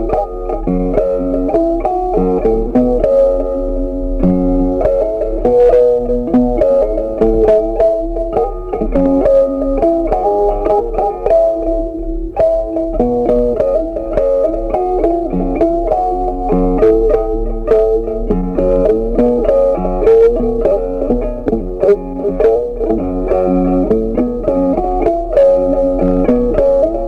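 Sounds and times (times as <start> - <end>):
instrumental music with picked melody: 0.0 - 27.0.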